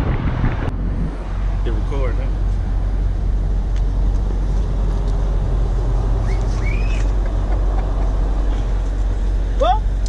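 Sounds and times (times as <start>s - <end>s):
car engine idling: 0.7s - 10.0s.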